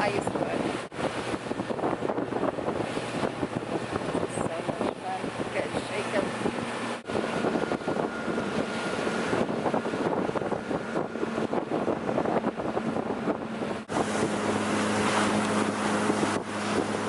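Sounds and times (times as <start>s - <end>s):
hull knocking on choppy water: 0.0s - 17.0s
motorboat engine hum: 0.0s - 17.0s
wind buffeting microphone: 0.0s - 17.0s.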